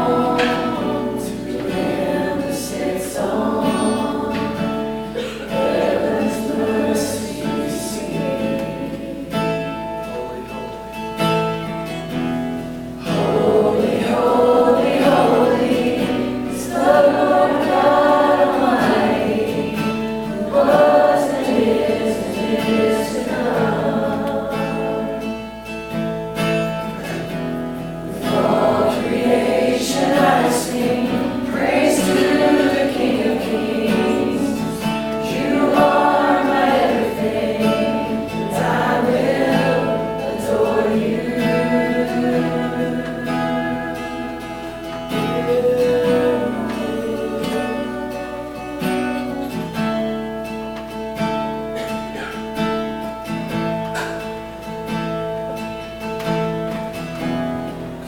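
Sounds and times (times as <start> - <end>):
group singing worship song: 0.0 - 10.6, 12.1 - 54.6
guitar accompaniment: 0.0 - 58.0.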